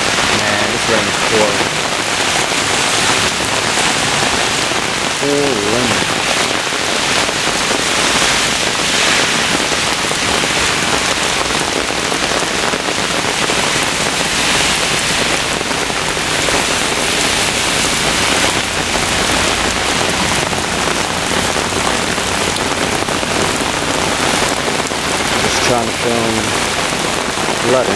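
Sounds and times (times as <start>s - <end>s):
heavy rain on hard surfaces: 0.0s - 27.9s.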